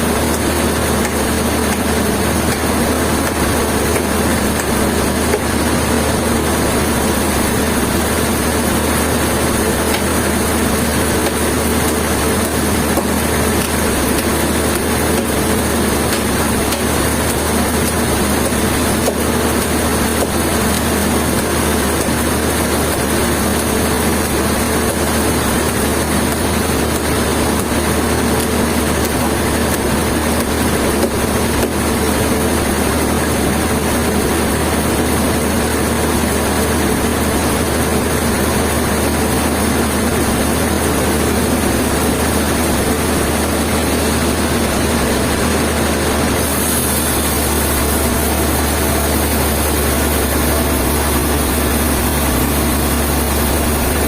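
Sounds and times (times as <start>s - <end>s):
heavy machinery running: 0.0s - 54.0s.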